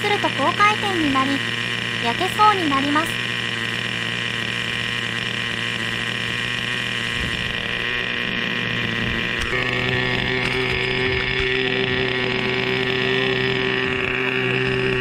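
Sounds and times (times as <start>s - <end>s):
model helicopter engine running: 0.0s - 15.0s.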